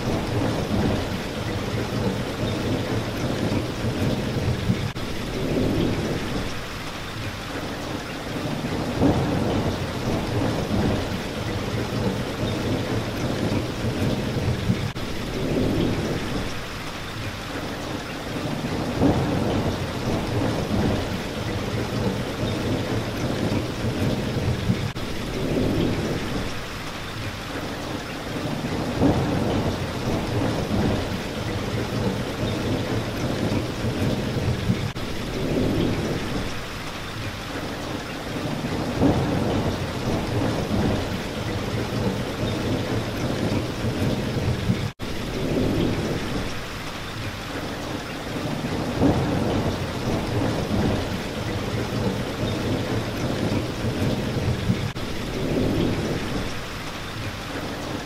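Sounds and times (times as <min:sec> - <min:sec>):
thunder rolling: 0:00.0 - 0:06.6, 0:08.4 - 0:16.5, 0:18.4 - 0:26.6, 0:28.4 - 0:36.7, 0:38.4 - 0:46.6, 0:48.4 - 0:56.7
rain hitting a window: 0:00.0 - 0:58.0.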